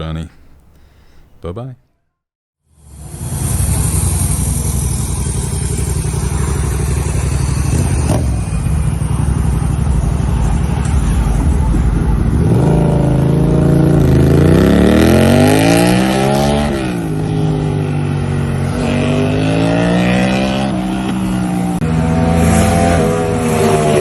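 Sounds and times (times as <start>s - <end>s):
motorcycle engine accelerating: 2.7s - 24.0s.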